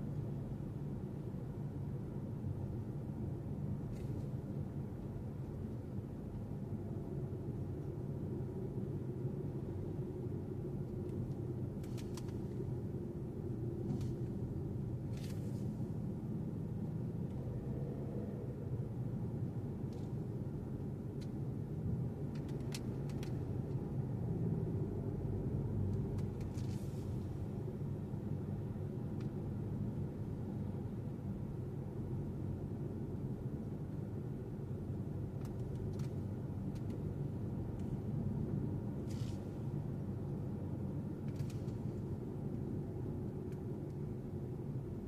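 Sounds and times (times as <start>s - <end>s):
car road and engine noise: 0.0s - 45.0s.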